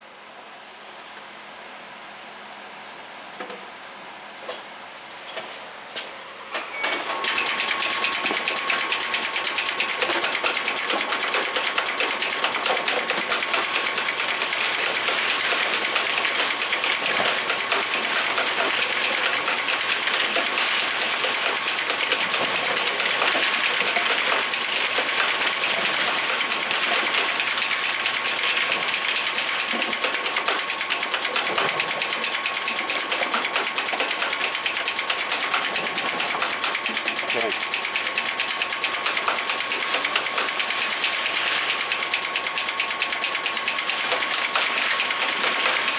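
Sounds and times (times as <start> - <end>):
bottle capping machine running: 6.5 - 45.9.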